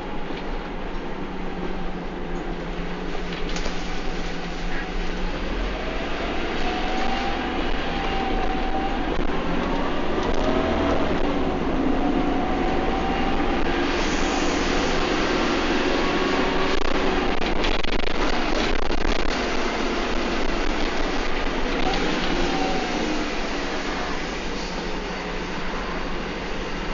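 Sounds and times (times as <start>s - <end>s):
bus engine whining: 0.0s - 26.9s.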